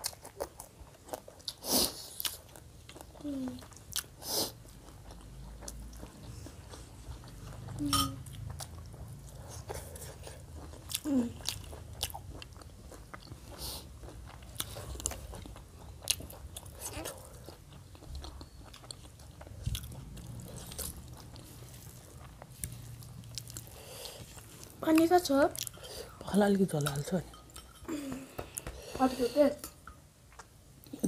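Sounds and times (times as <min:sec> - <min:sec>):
chewing and mouth smacking: 0:00.0 - 0:28.8, 0:29.7 - 0:31.0.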